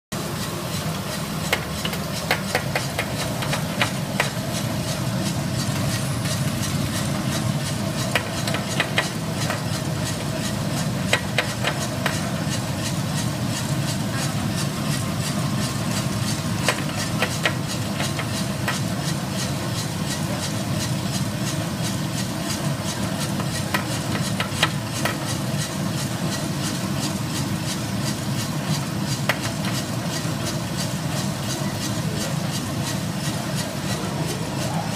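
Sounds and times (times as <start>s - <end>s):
coffee roaster humming: 0.2s - 34.9s.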